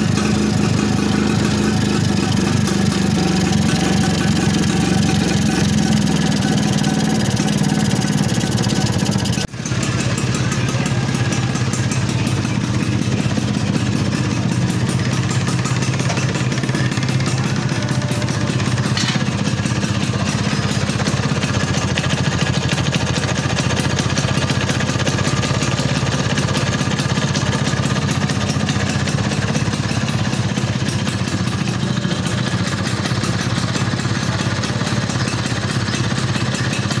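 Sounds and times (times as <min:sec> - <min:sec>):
scooter engine idling: 0:00.0 - 0:37.0.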